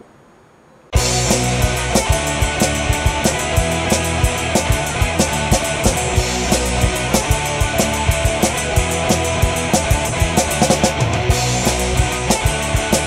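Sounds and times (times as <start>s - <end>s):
rock music with drum beat: 1.0s - 13.0s.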